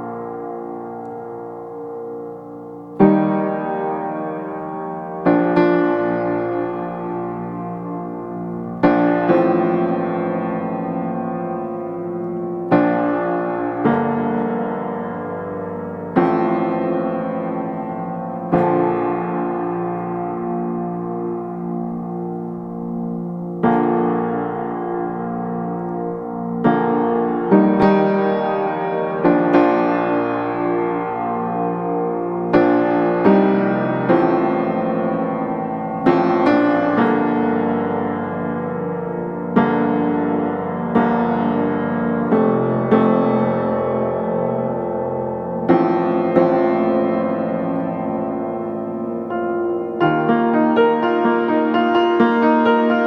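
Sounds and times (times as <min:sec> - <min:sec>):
slow piano chords: 0:00.0 - 0:53.0.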